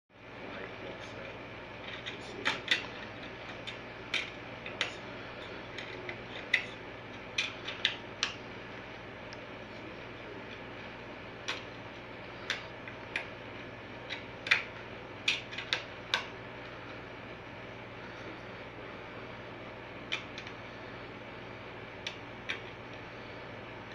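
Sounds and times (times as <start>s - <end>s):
low hum: 0.2s - 23.9s.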